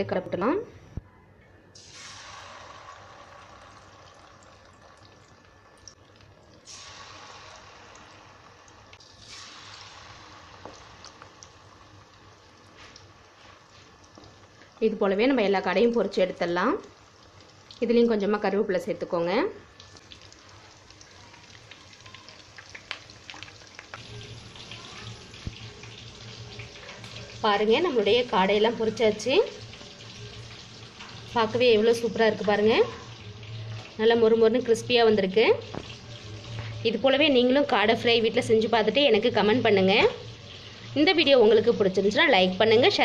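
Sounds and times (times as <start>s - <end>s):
oil sizzling: 1.8s - 43.0s.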